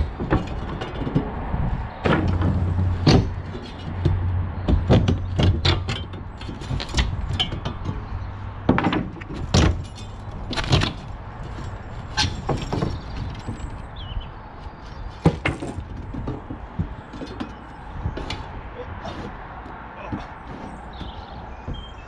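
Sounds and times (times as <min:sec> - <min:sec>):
wood knocking and clattering: 0:00.0 - 0:14.0, 0:15.0 - 0:22.0.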